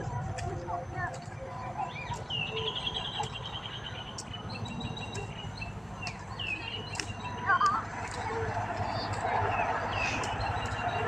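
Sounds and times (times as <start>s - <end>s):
small birds chirping: 1.0s - 11.0s.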